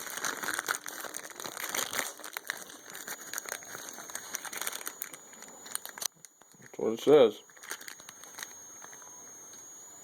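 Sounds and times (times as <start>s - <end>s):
packaging crinkling: 0.0s - 9.1s.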